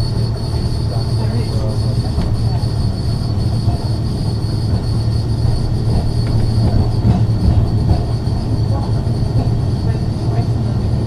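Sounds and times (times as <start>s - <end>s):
high whine: 0.0s - 11.0s
tram low hum: 0.0s - 11.0s
wheels ticking on rails: 0.0s - 11.0s.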